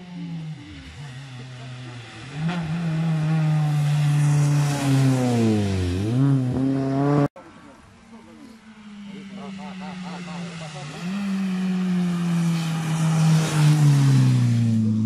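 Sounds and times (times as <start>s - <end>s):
rally car engine at high revs: 0.0s - 7.4s, 8.5s - 15.0s.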